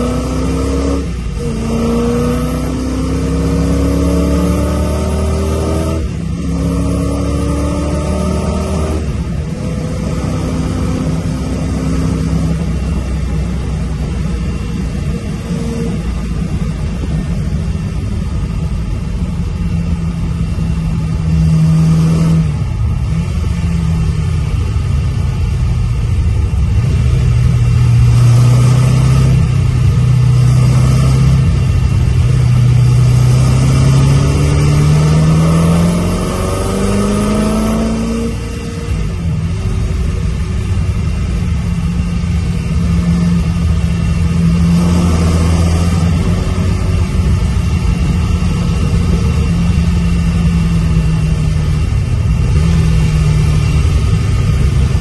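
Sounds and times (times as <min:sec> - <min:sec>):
sports car engine revving: 0:00.0 - 0:55.0
wind and road noise: 0:00.0 - 0:55.0.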